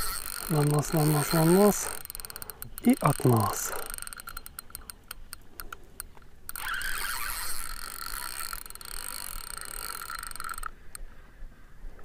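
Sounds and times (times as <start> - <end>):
fishing reel drag buzzing: 0.0 - 11.0
reel clicks: 0.0 - 11.1.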